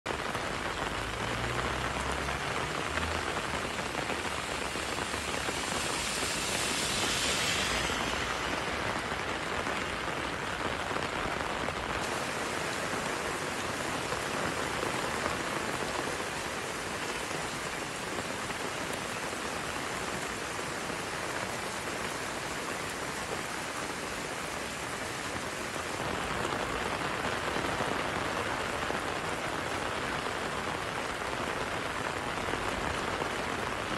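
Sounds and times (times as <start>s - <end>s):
heavy rain on pavement: 0.0s - 33.9s.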